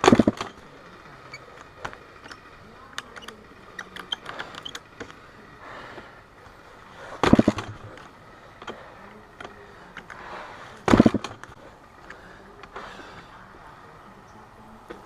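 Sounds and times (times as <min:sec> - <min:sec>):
dirt bike engine bursts: 0:00.0 - 0:15.0.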